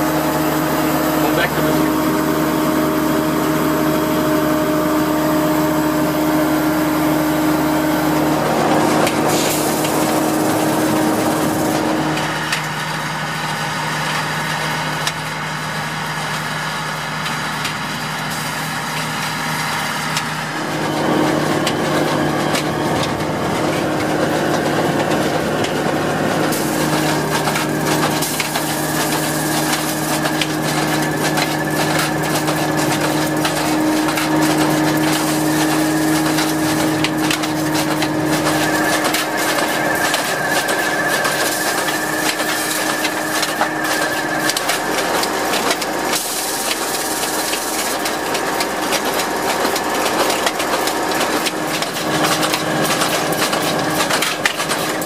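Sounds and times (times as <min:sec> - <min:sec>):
harvester engine drone: 0:00.0 - 0:55.0
transplanter clicking and clattering: 0:00.0 - 0:55.0.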